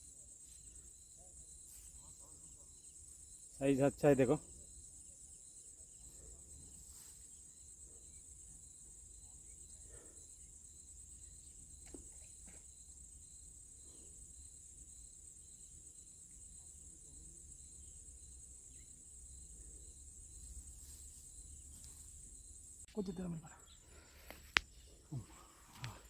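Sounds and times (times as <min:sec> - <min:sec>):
crickets trilling: 0:00.0 - 0:26.0
lower insect call: 0:00.0 - 0:26.0.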